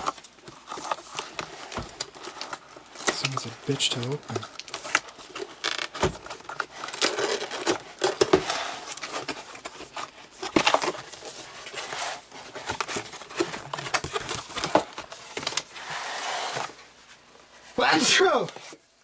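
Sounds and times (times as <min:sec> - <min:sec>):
cardboard box tearing and crinkling: 0:00.0 - 0:16.8.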